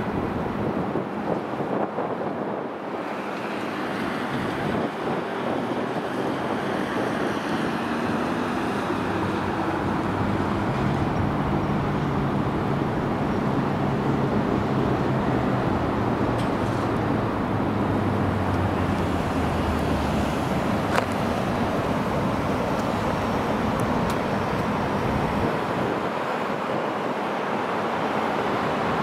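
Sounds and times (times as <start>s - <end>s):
road traffic noise: 0.0s - 29.0s
vehicle engine hum: 0.0s - 29.0s
wind buffeting microphone: 0.0s - 29.0s.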